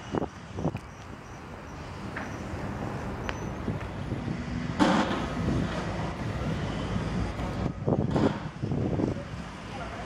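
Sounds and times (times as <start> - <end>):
wind on microphone: 0.0 - 1.2, 1.8 - 10.0
tram rumbling along rails: 0.0 - 10.0.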